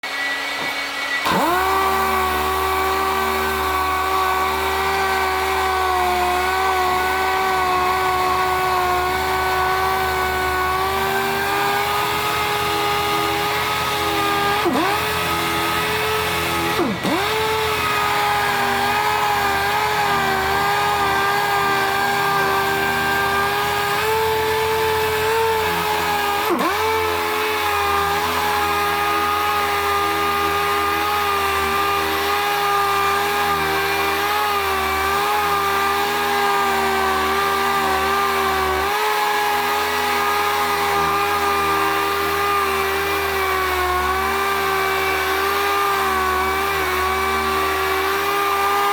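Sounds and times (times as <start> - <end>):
power sander whine: 0.0 - 48.9.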